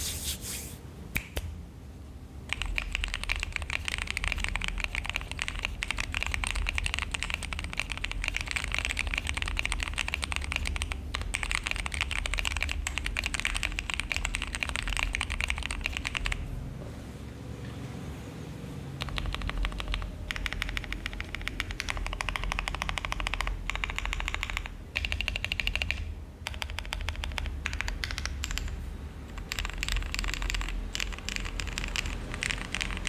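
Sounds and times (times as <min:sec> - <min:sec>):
mechanical keyboard typing: 0:02.5 - 0:16.5, 0:19.0 - 0:33.0.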